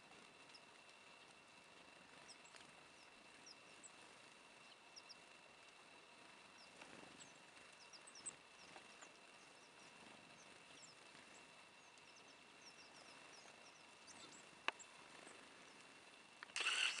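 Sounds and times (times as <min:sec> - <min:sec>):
faint outdoor hiss: 0:00.0 - 0:17.0
songbirds chirping: 0:00.0 - 0:17.0.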